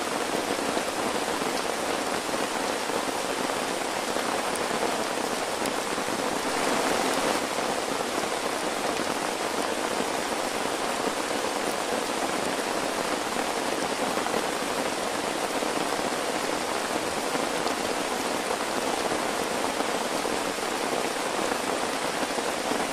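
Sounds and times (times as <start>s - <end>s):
heavy rain: 0.0s - 22.9s.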